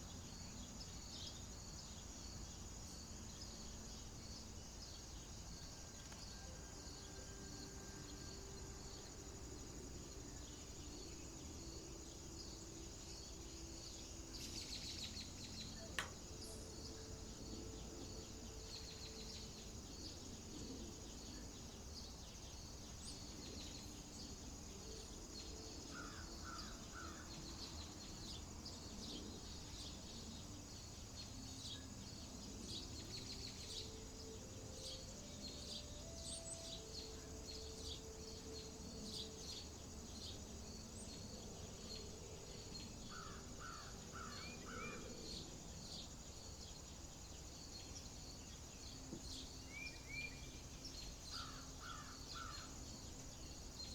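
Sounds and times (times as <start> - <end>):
insect chirring: 0.0 - 53.9.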